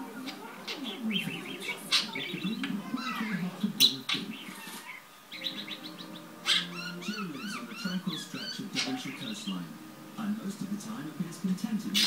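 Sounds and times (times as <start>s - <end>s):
budgerigar warbling and chattering: 0.0s - 9.8s.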